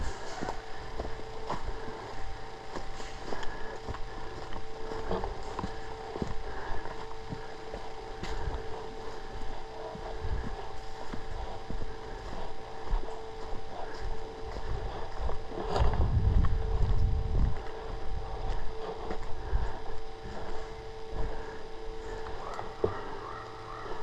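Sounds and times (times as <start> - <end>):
microphone rumbling and rustling: 0.0 - 22.2
faint steady whine: 0.0 - 24.0.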